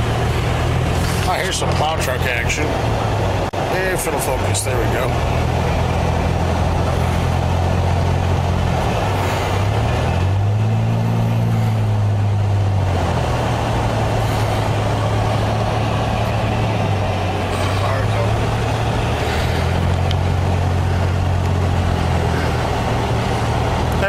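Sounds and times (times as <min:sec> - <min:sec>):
car engine running: 0:00.0 - 0:24.0
tyre and road noise: 0:00.0 - 0:24.0.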